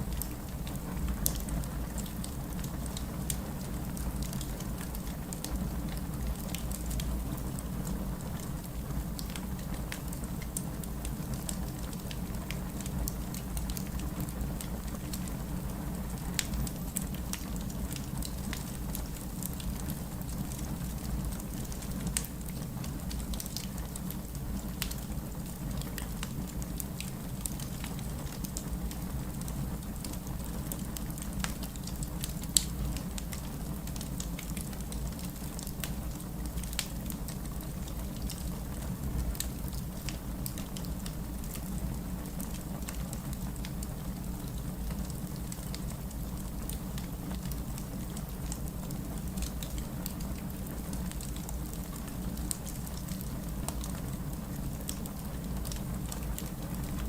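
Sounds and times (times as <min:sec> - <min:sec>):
rain rumble: 0:00.0 - 0:57.0
wood fire crackling and popping: 0:00.0 - 0:57.0.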